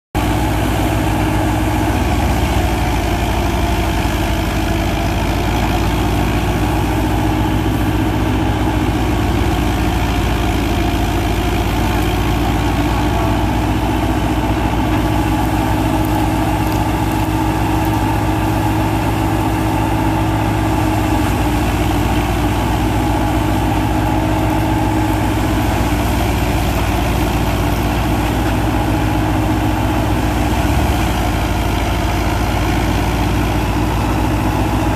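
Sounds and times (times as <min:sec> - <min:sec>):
thresher drum humming: 0:00.2 - 0:34.9
tractor diesel engine running: 0:00.2 - 0:34.9.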